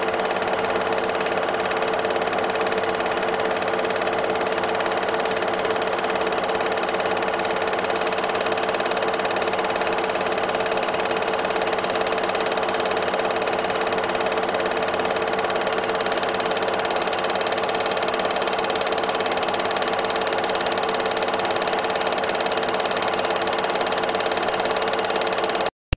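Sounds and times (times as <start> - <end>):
film projector whir and clatter: 0.0 - 25.7.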